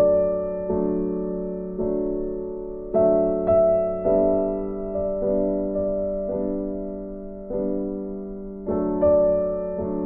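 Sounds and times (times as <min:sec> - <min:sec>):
slow gentle piano chords: 0:00.0 - 0:10.0.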